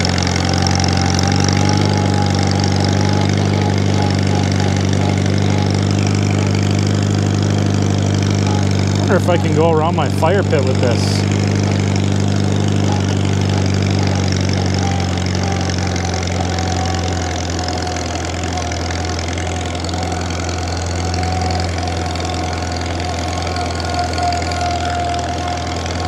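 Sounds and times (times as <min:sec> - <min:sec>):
high whine: 0:00.0 - 0:26.0
tractor engine running: 0:00.0 - 0:26.0.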